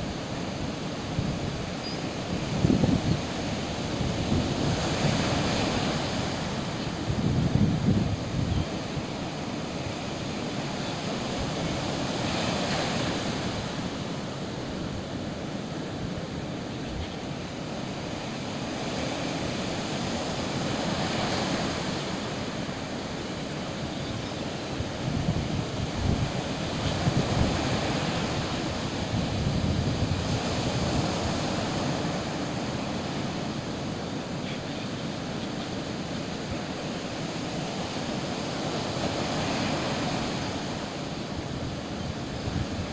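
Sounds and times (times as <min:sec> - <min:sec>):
wind buffeting microphone: 0:00.0 - 0:22.9, 0:24.6 - 0:34.3, 0:35.9 - 0:42.9
sea waves washing on shore: 0:00.0 - 0:42.9.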